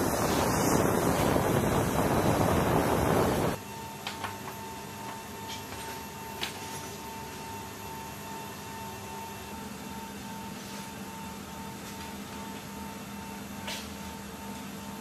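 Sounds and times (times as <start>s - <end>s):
aircraft machinery hum and whine: 0.0s - 15.0s.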